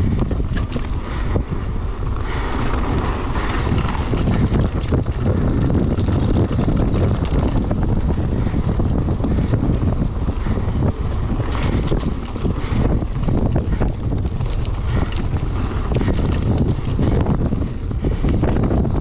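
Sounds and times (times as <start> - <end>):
bike rattling over bumps: 0.0 - 19.0
bike tyres rolling on dirt: 0.0 - 19.0
wind rushing over microphone: 0.0 - 19.0.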